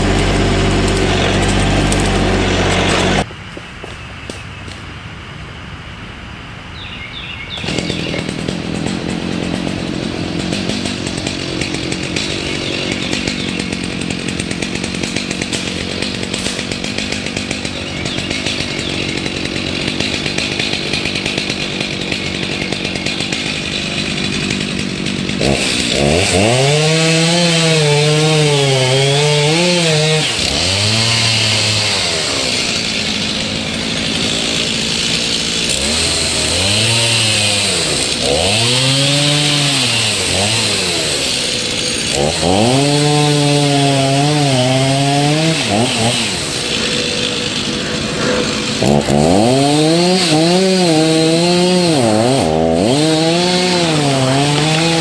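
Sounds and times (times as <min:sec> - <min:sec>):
chainsaw cutting wood: 0:00.0 - 0:03.3, 0:07.6 - 0:55.0.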